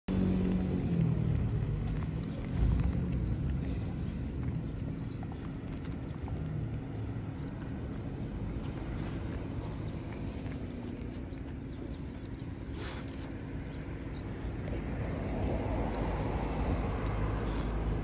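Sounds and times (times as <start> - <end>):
dog chewing grass: 0.1 - 18.0
small crunching ticks: 0.1 - 18.0.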